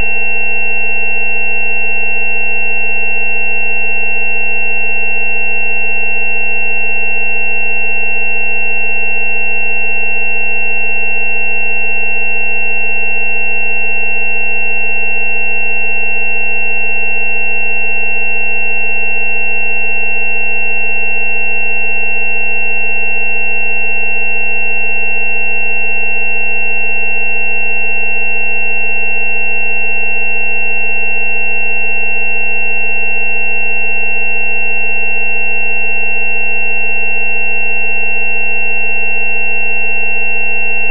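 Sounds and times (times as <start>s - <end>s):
higher steady sine tones: 0.0s - 40.9s
low sine tone: 0.0s - 40.9s.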